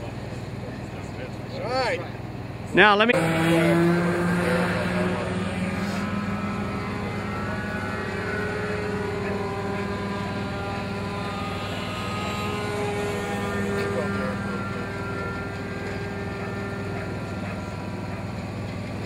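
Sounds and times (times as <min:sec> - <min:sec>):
small engine humming: 0:00.0 - 0:19.0.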